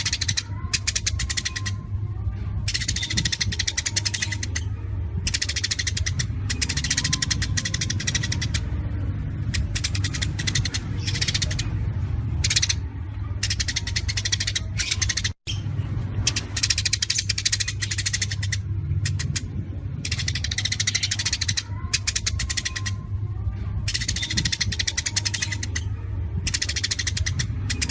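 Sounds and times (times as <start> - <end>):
songbird rapid sharp notes: 0.0 - 1.9, 2.7 - 23.2, 23.8 - 27.9
steady low hum: 0.0 - 27.9.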